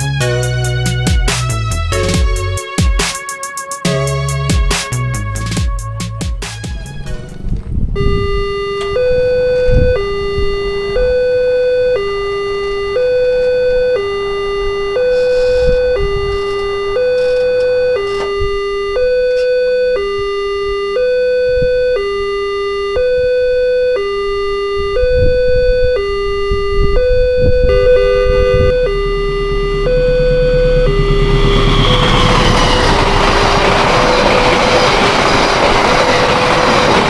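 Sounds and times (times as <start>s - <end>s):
two-tone crossing alarm: 0.0s - 5.8s, 8.0s - 37.0s.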